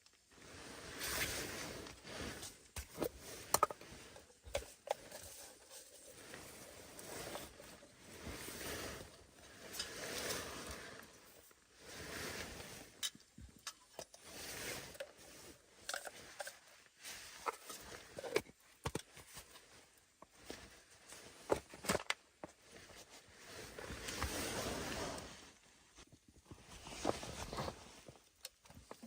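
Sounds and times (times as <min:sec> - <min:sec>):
rustling and scraping handling noise: 0:00.0 - 0:29.0.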